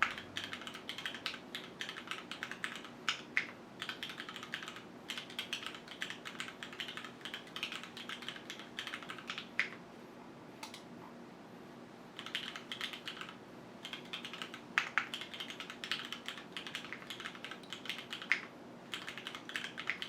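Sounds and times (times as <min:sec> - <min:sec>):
mechanical keyboard typing: 0:00.0 - 0:09.8, 0:12.2 - 0:20.0.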